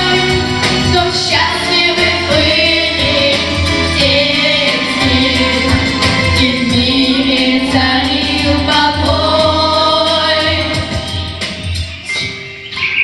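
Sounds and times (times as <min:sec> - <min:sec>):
vocal group singing: 0:00.0 - 0:11.8
instrumental backing with beat: 0:00.0 - 0:13.0.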